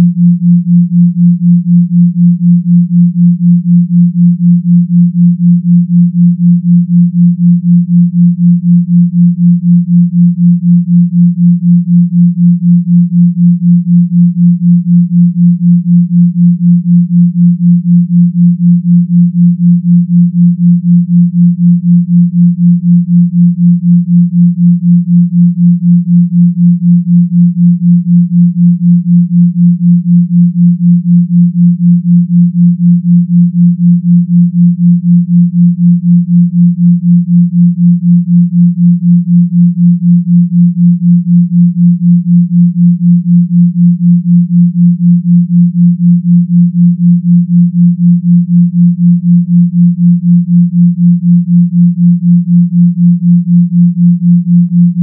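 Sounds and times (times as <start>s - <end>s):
pulsing sine tones: 0.0s - 55.0s.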